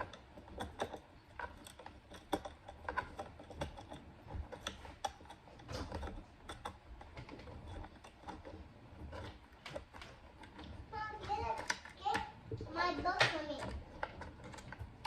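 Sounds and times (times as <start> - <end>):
clicking and tapping of hardware on wood: 0.0 - 15.0.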